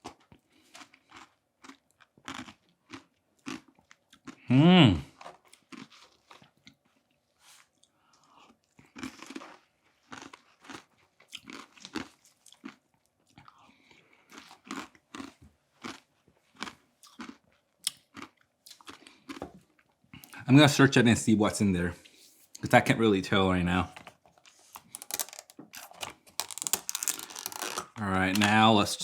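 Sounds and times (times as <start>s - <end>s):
person chewing and crunching: 0.0s - 20.4s, 24.0s - 29.0s.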